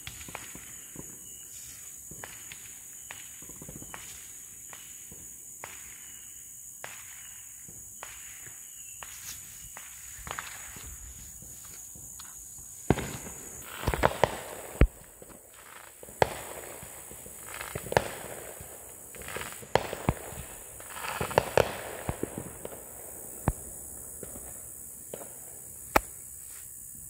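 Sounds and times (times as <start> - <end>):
hissing crackle: 0.0 - 26.5
fireworks bangs and pops: 0.0 - 26.8.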